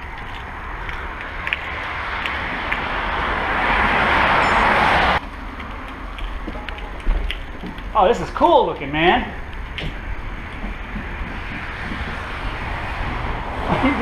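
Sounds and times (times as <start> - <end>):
vehicle passing close: 0.0 - 6.4, 9.1 - 14.0
wind rumble on microphone: 0.0 - 14.0.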